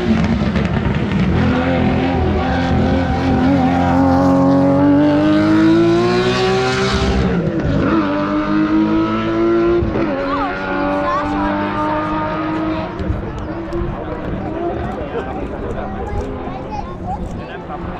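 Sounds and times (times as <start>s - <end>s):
race car engine at full throttle: 0.0s - 17.9s.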